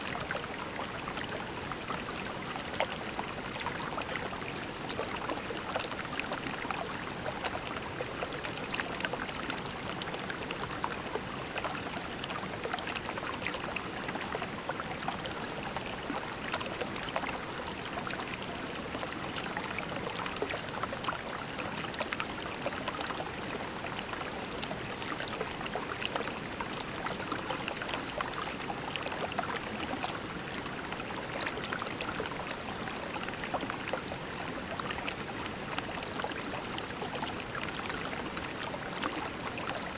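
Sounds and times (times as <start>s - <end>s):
creek babbling over pebbles: 0.0s - 39.9s.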